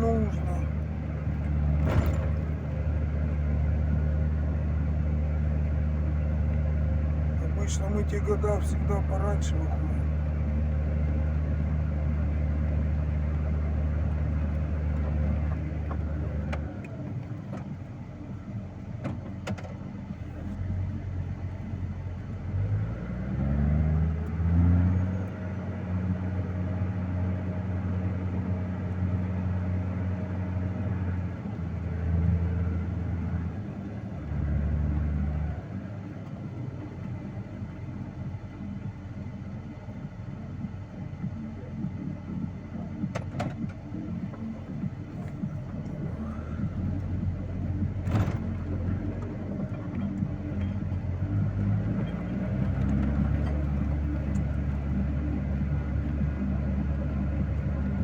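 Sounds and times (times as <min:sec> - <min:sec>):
vehicle engine revving: 0:00.0 - 0:17.7, 0:20.0 - 0:39.0, 0:40.6 - 0:58.0.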